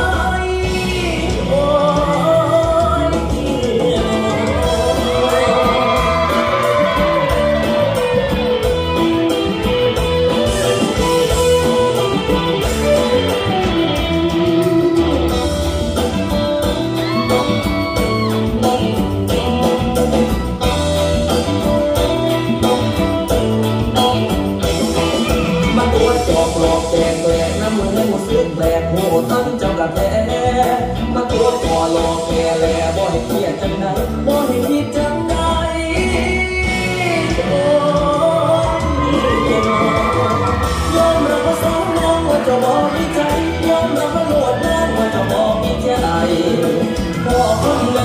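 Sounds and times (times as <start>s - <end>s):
dance song over loudspeakers: 0.0s - 19.0s, 24.7s - 48.0s.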